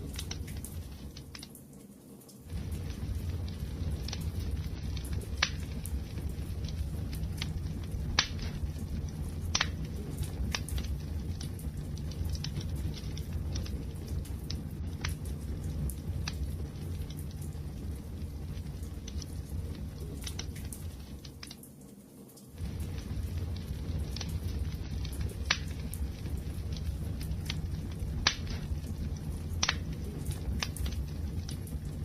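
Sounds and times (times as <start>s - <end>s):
wood fire rumbling: 0.0s - 1.5s, 2.4s - 21.8s, 22.5s - 32.0s
fire crackling and popping: 0.0s - 32.0s.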